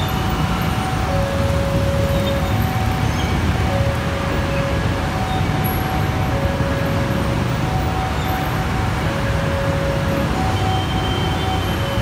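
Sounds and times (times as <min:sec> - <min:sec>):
low rumble of moving vehicles: 0:00.0 - 0:12.0.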